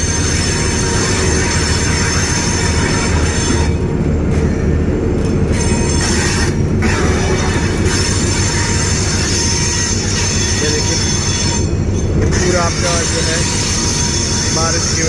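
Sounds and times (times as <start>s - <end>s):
high-pitched wheel squeal: 0.0s - 4.8s, 5.4s - 15.0s
train rumbling on track: 0.0s - 15.0s.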